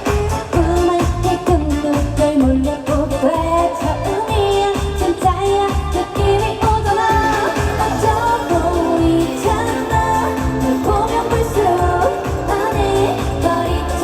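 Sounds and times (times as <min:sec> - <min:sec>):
backing track with heavy beat: 0:00.0 - 0:14.0
woman singing: 0:00.4 - 0:14.0.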